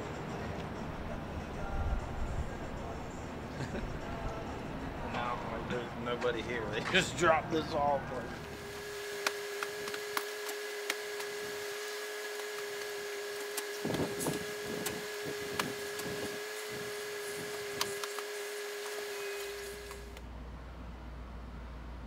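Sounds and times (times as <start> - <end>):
steady whining hum: 0.0 - 22.0.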